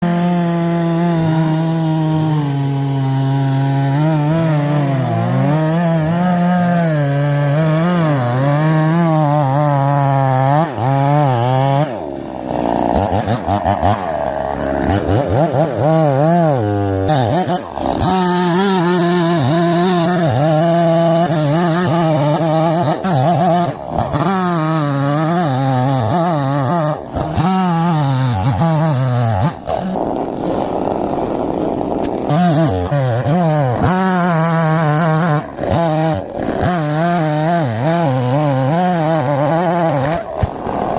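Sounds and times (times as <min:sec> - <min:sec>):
chainsaw cutting tree: 0:00.0 - 0:40.9.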